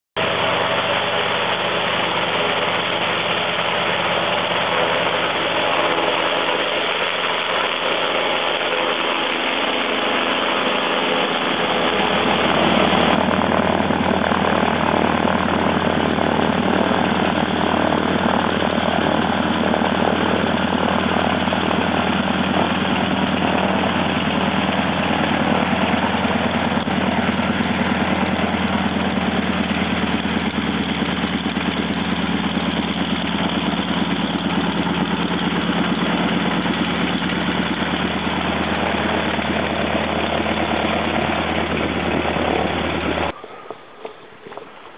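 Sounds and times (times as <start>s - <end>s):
floatplane piston engine running: 0.2s - 43.4s.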